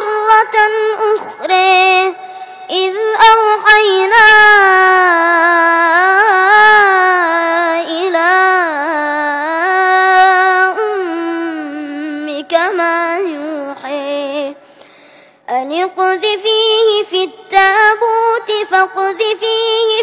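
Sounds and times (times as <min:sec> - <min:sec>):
boy reciting melodically: 0:00.0 - 0:14.7, 0:15.5 - 0:20.0.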